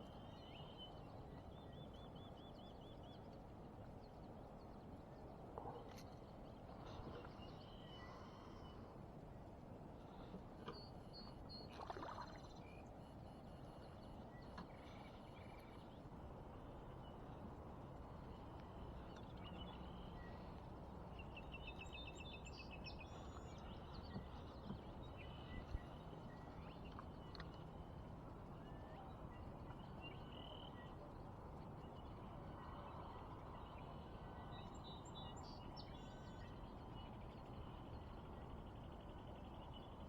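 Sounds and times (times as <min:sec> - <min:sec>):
outdoor background hush: 0:00.0 - 0:40.0.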